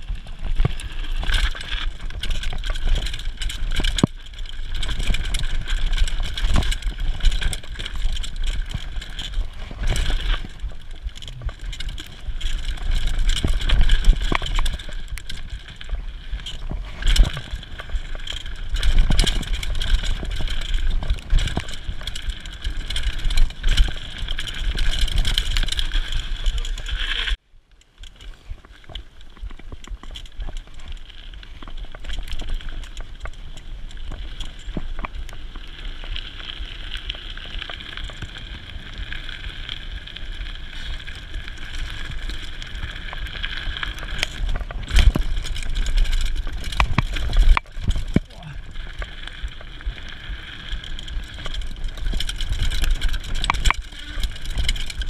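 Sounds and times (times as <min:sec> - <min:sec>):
wind rumble on microphone: 0:00.0 - 0:27.4, 0:28.1 - 0:55.0
bike tyres rattling over dirt: 0:00.0 - 0:55.0.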